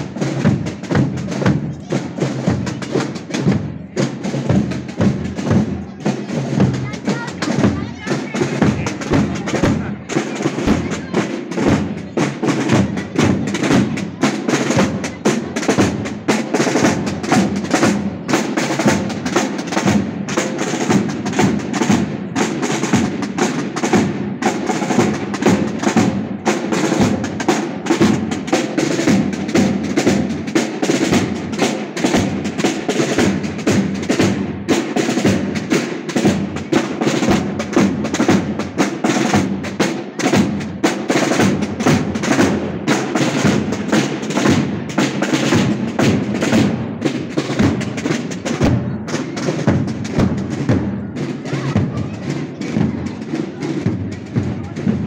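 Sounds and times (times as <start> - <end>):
marching drums playing: 0.0 - 55.0.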